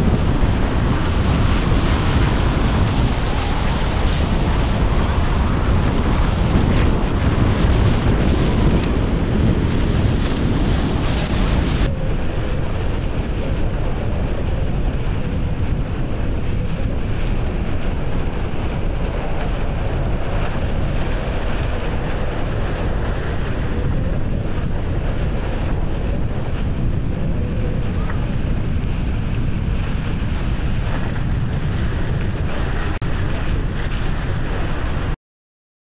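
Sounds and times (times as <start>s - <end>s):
wind buffeting microphone: 0.0s - 35.2s.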